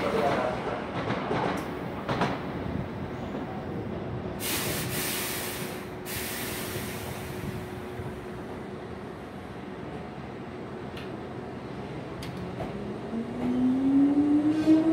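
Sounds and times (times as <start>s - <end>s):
electric train rumbling: 0.0s - 14.9s.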